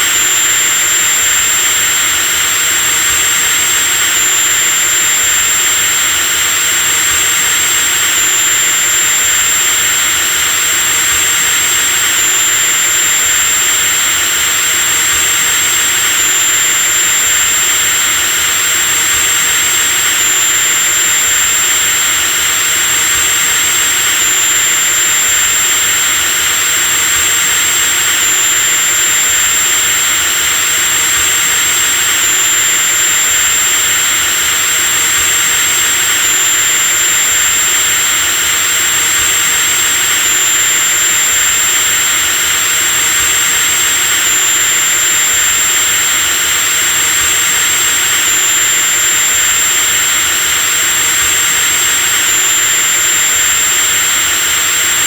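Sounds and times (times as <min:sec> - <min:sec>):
electric drill whining: 0:00.0 - 0:55.0.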